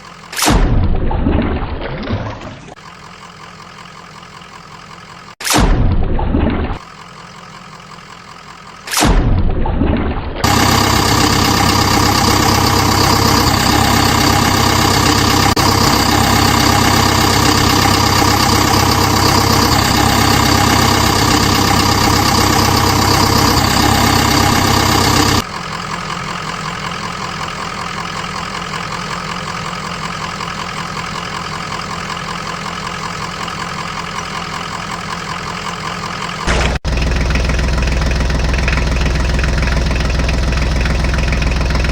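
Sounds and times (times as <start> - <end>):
truck engine idling: 0.0 - 0.4, 2.7 - 5.4, 6.8 - 8.9, 10.3 - 41.9.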